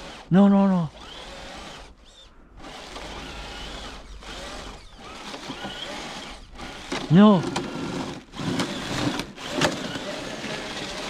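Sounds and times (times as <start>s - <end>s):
toy truck motor whining: 0.0s - 11.0s.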